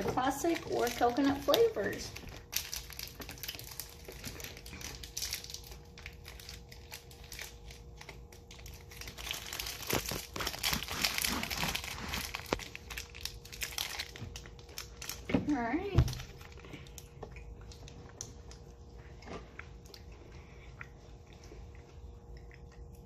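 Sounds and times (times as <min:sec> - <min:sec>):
plastic wrappers crinkling: 0:00.0 - 0:18.6.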